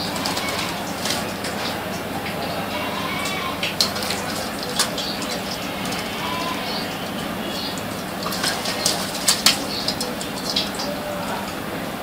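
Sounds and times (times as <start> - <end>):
water splashes: 0.0 - 12.0.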